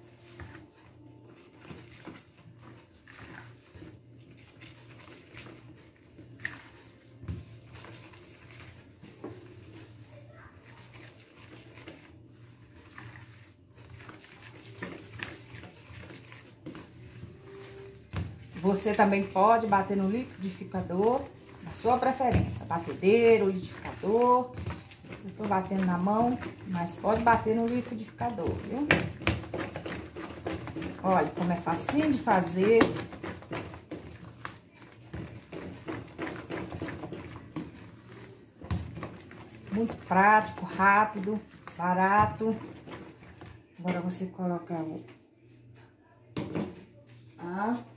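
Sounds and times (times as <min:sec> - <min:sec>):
spoon beating batter in bowl: 0:00.0 - 0:44.8.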